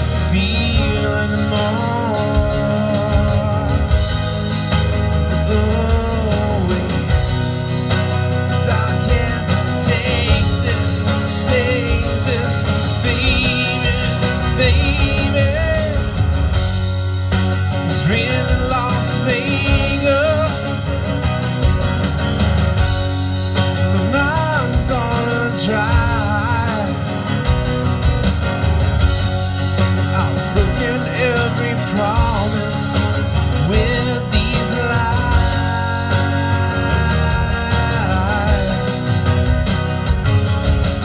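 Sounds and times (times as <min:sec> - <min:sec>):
lead melody with bending notes: 0:00.0 - 0:41.0
live rock band playing: 0:00.0 - 0:41.0.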